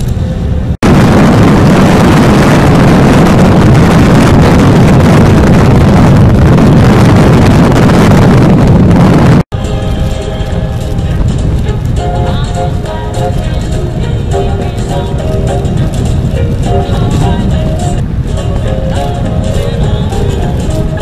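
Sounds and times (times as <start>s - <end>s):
low engine rumble: 0.0s - 21.0s
wind buffeting microphone: 0.0s - 21.0s.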